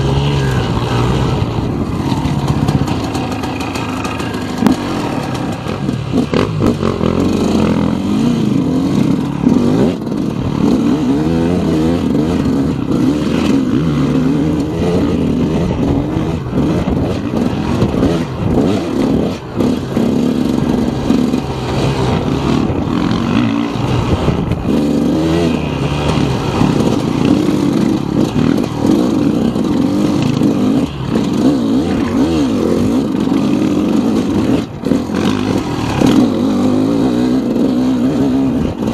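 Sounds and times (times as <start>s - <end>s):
dirt bike engine revving: 0.0s - 38.9s
knocks and clatter from trail: 0.0s - 38.9s.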